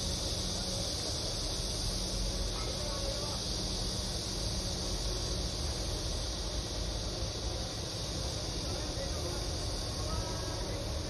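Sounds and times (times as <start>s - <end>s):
constant high hiss: 0.0s - 11.0s.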